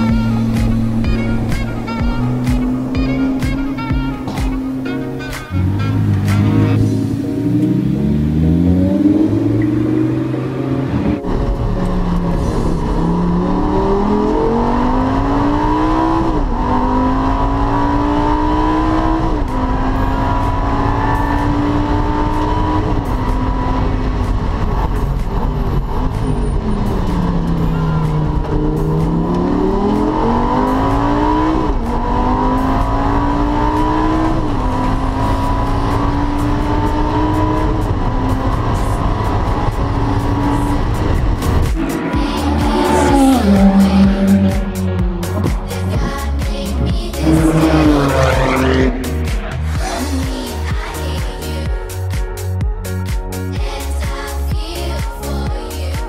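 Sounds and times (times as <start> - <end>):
race car engine revving: 0.0 - 51.7.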